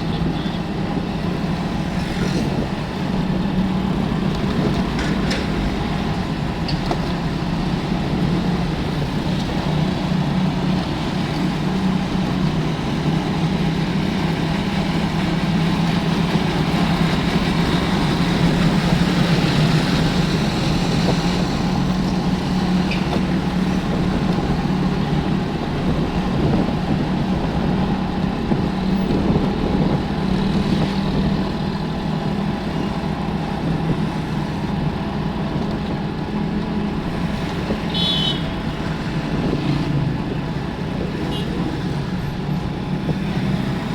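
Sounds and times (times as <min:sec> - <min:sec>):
engine running steadily: 0:00.0 - 0:43.9
rushing road noise: 0:00.0 - 0:43.9.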